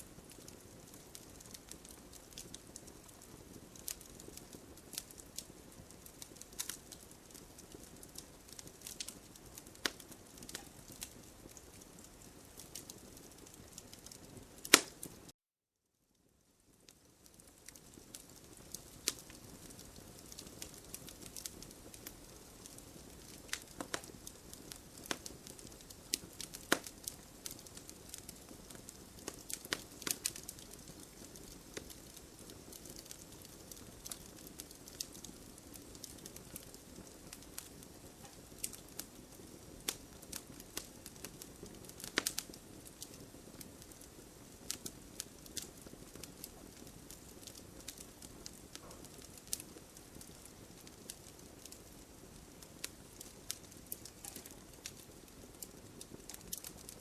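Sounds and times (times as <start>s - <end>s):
campfire crackling and popping: 0.0s - 15.3s, 16.2s - 57.0s.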